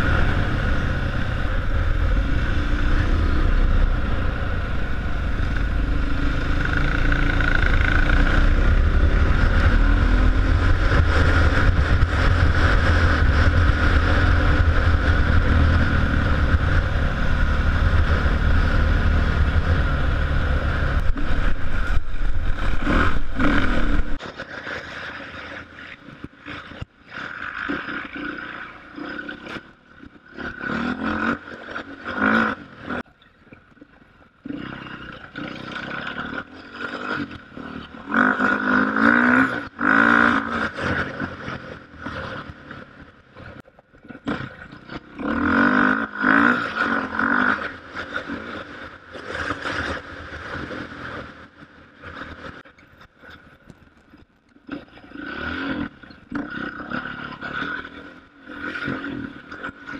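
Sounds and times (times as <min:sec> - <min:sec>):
motorcycle engine revving: 0:00.0 - 0:24.6, 0:26.3 - 0:33.1, 0:34.4 - 0:52.8, 0:54.6 - 0:59.9.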